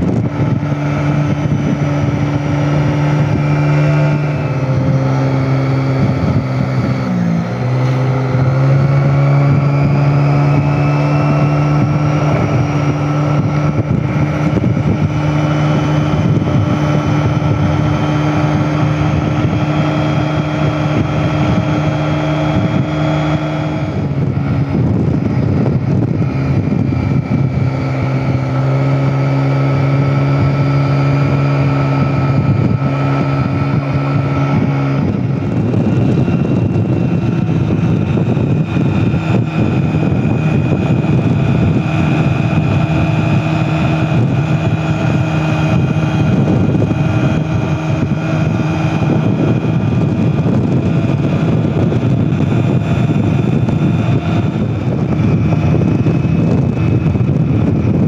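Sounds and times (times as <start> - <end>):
small motorcycle engine running: 0.0 - 58.0
wind rushing over microphone: 0.0 - 58.0.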